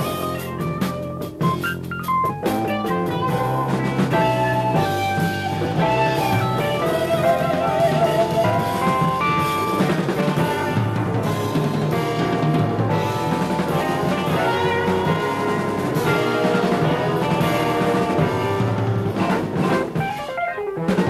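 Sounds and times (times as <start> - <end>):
drum kit: 0.0 - 21.0
electric bass: 0.0 - 21.0
electric guitar lines: 0.0 - 21.0
keyboards: 0.0 - 21.0.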